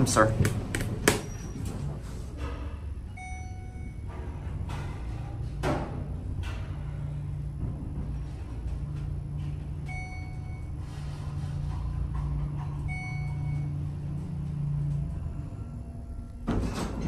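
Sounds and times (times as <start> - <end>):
elevator low hum: 0.0 - 17.0.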